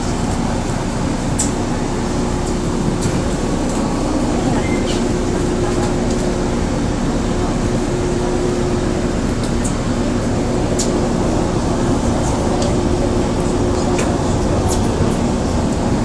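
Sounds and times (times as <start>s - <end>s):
steady low hum: 0.0s - 16.0s
train running rumble: 0.0s - 16.0s.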